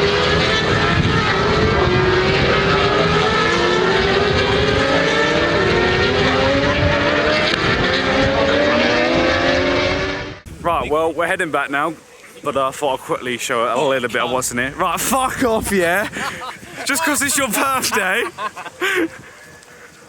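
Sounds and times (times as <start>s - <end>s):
motorcycle engines revving: 0.0s - 10.8s, 13.5s - 19.0s.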